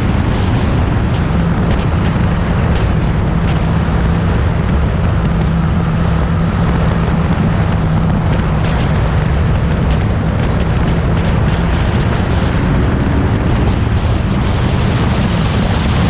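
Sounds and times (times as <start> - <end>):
racing car engine running: 0.0 - 16.0.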